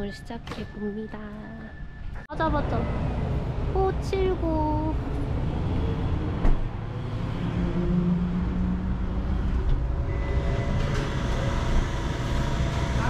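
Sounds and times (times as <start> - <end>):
traffic: 0.0 - 13.0
vehicle engine rumble: 0.0 - 13.0.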